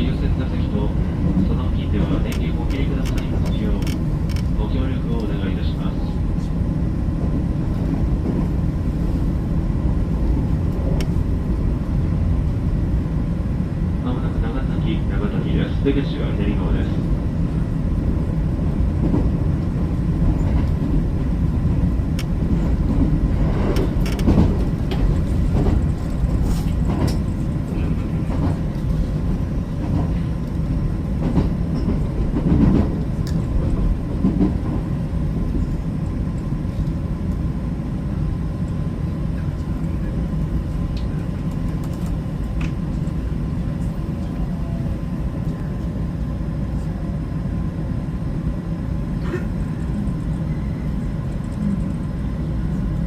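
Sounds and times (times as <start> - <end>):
train rumbling on rails: 0.0 - 53.0.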